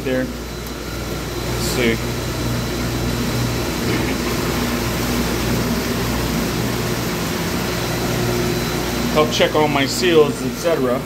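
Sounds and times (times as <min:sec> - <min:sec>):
pump mechanical hum: 0:00.0 - 0:11.0.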